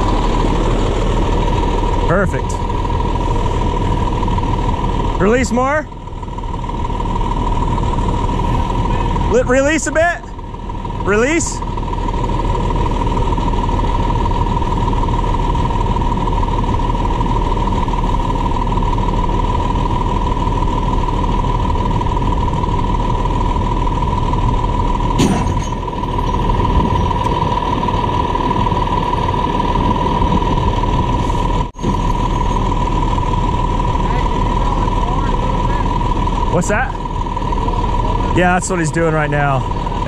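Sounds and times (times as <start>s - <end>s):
diesel engines running: 0.0s - 40.0s.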